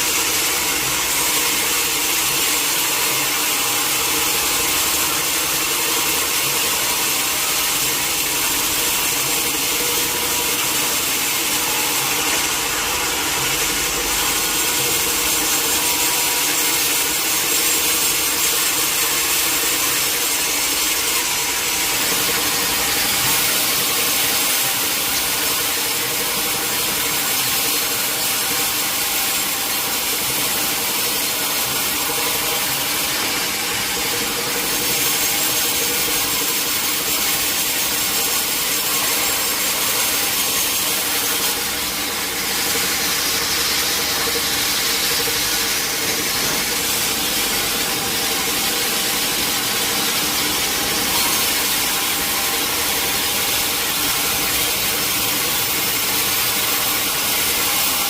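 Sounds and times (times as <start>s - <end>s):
saw cutting log: 0.0s - 58.0s
saw machinery hum: 0.0s - 58.0s.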